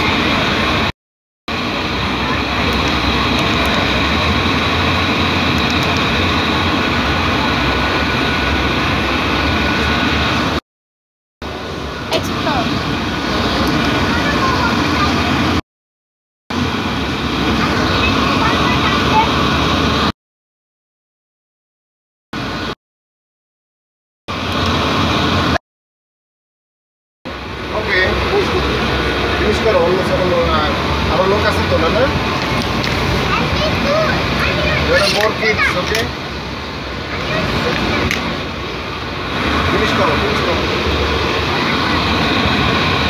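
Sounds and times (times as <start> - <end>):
vehicle running hum with whines: 0.0 - 0.9, 1.5 - 10.6, 11.4 - 15.6, 16.5 - 20.2, 24.3 - 25.6, 27.3 - 43.0.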